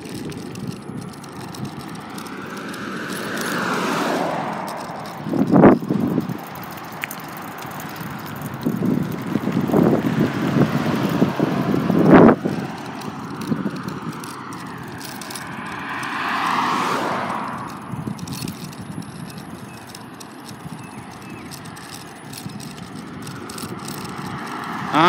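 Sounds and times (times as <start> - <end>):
car passing: 0.0 - 25.0
tyre noise on road: 0.0 - 25.0
wind buffeting microphone: 0.0 - 25.0.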